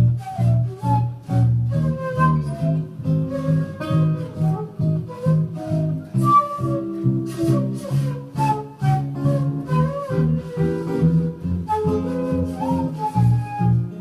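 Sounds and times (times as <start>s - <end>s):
swing jazz combo: 0.0s - 14.0s.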